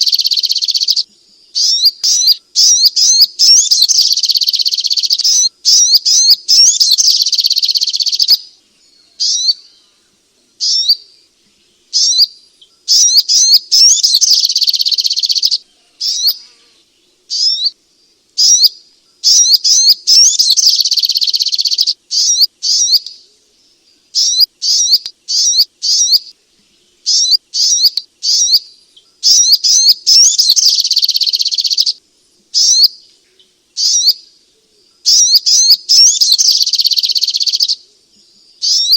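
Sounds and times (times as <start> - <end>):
bird chirping trills: 0.0 - 38.9.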